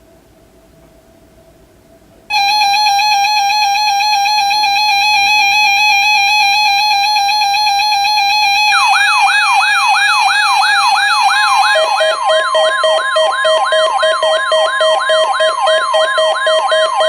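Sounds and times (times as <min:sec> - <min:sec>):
steady buzzy alert tone: 0:02.3 - 0:17.0.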